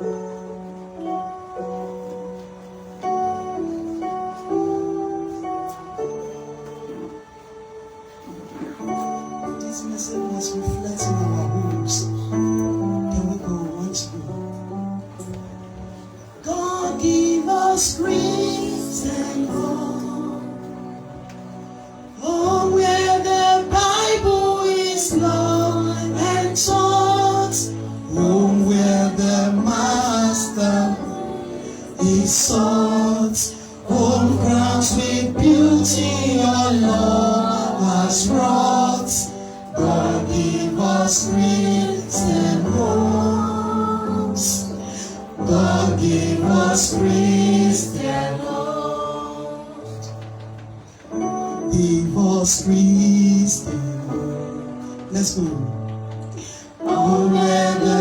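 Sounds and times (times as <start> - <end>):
congregation singing a hymn: 0.0 - 58.0
instrumental accompaniment: 0.0 - 58.0.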